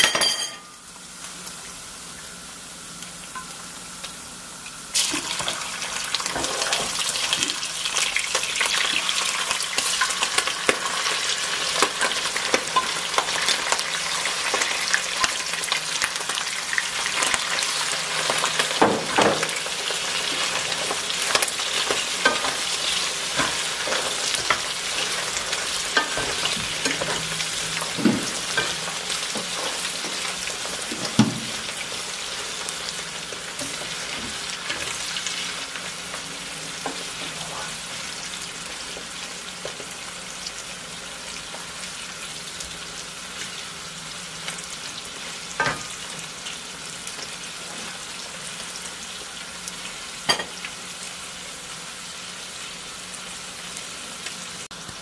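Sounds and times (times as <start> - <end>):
meat sizzling and crackling in oil: 0.6 - 55.0.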